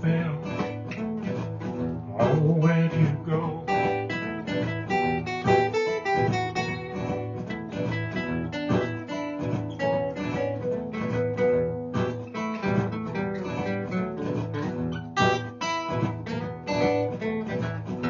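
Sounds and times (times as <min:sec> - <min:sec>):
guitar playing blues riff: 0:00.0 - 0:18.0.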